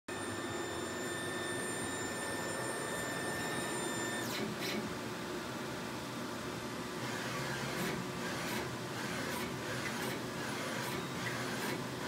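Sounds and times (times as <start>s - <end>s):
printer machine hum: 0.1s - 4.9s, 7.0s - 12.0s.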